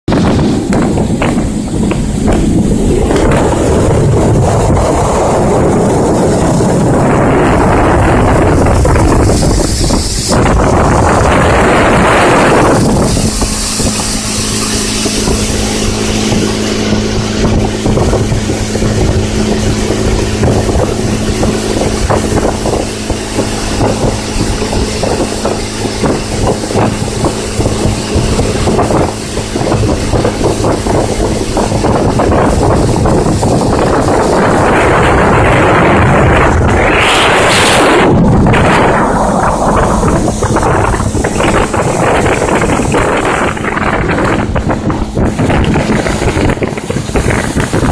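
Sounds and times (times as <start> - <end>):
low hum: 0.0 - 47.9
motorboat engine drone: 0.0 - 47.9
rushing wind and water: 0.0 - 47.9.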